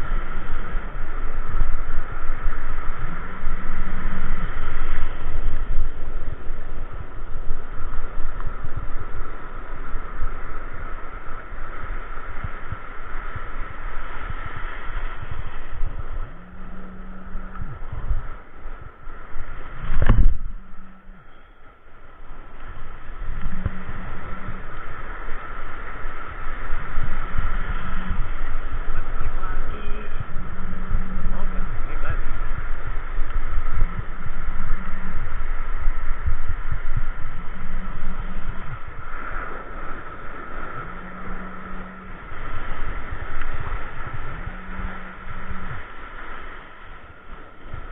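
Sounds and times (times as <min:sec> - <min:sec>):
surf washing over rocks: 0:00.0 - 0:47.9
wind buffeting microphone: 0:00.0 - 0:47.9.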